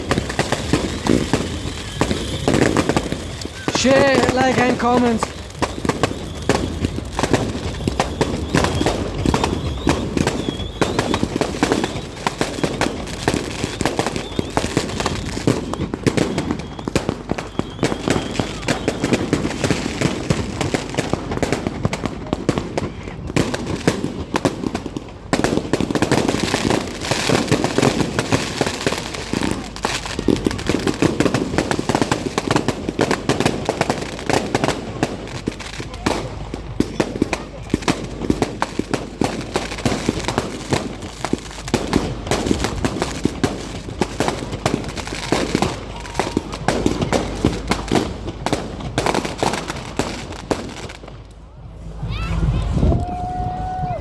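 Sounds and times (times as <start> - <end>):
fireworks cracking and banging: 0.0 - 54.0.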